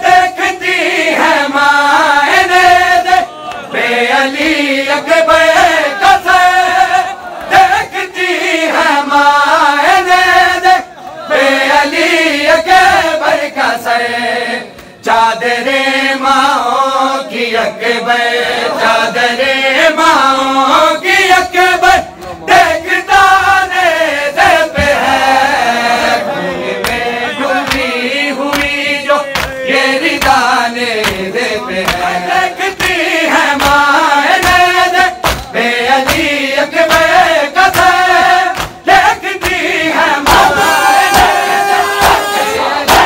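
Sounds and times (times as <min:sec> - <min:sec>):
rhythmic chest-beating slaps: 0:00.0 - 0:15.5, 0:20.7 - 0:26.2, 0:26.8 - 0:43.0
men chanting a lament: 0:00.0 - 0:43.0.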